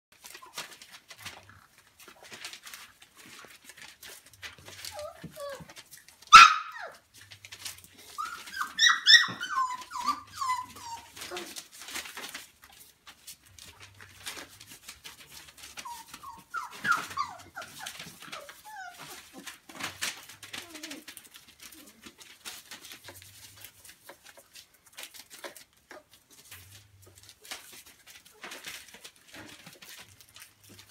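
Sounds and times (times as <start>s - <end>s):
paws scuffling on newspaper: 0.1s - 30.9s
puppies whimpering and yipping: 3.2s - 12.5s, 13.8s - 30.9s.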